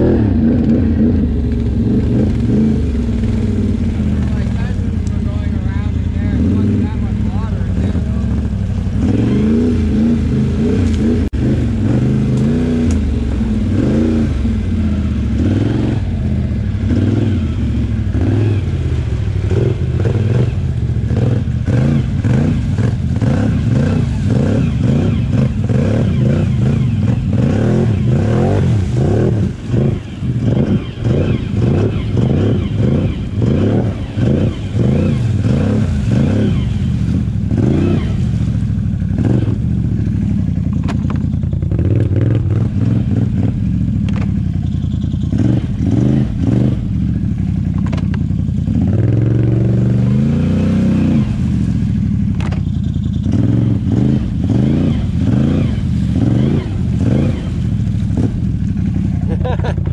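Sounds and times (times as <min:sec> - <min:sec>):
atv engine revving under load: 0:00.0 - 0:59.9.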